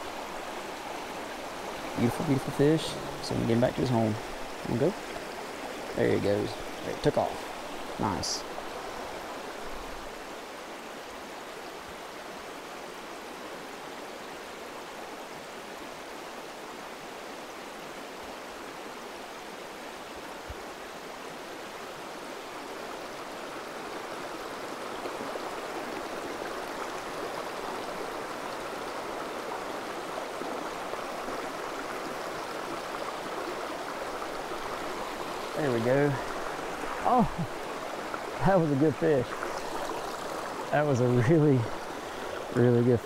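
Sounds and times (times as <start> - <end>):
stream running over rocks: 0.0 - 43.0.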